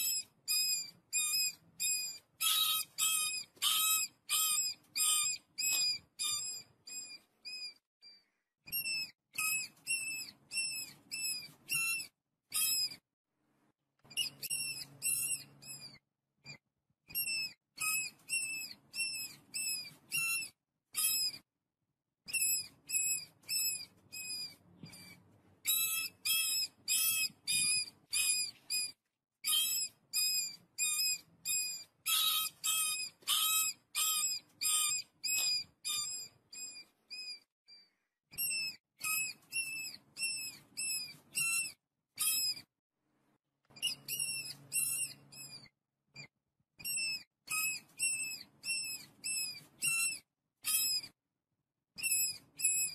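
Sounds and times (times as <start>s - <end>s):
mice squeaking: 0.0s - 13.0s, 14.0s - 21.5s, 22.2s - 42.7s, 43.7s - 51.2s, 52.0s - 52.9s.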